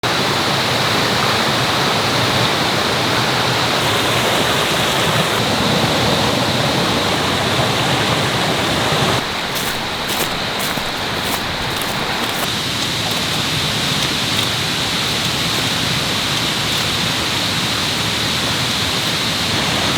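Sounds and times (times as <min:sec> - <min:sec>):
stream rushing over rocks: 0:00.0 - 0:19.9.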